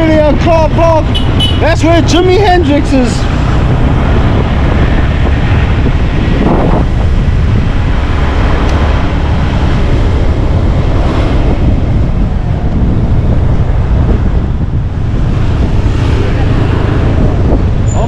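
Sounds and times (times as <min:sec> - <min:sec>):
motorcycle engine and road noise: 0:00.0 - 0:18.0
wind buffeting microphone: 0:00.0 - 0:18.0.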